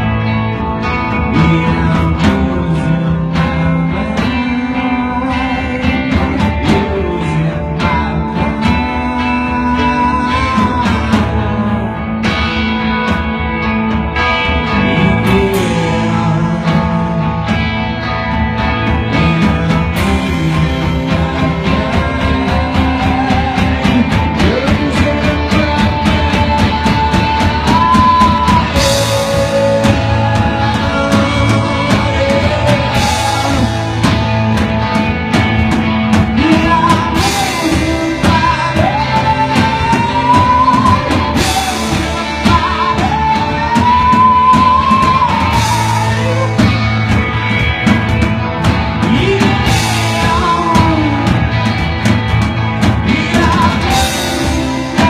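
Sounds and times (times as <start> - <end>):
man singing: 0.0 - 12.5, 14.4 - 48.0, 48.6 - 55.0
rock band playing: 0.0 - 55.0.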